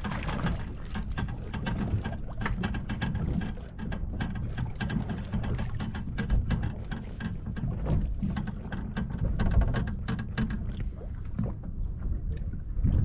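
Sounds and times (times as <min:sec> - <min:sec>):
boat and tackle knocking: 0:00.0 - 0:12.2
wind rumbling on microphone: 0:00.0 - 0:13.0.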